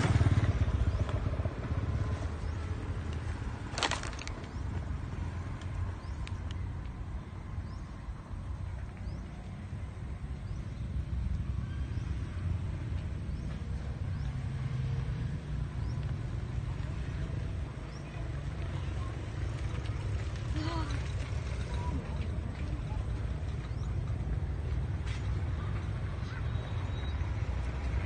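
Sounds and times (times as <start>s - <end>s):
low uneven rumble: 0.0s - 26.3s.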